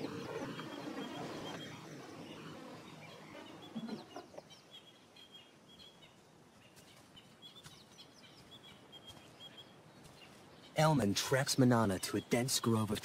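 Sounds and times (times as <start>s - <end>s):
birds calling faintly: 0.0s - 13.0s.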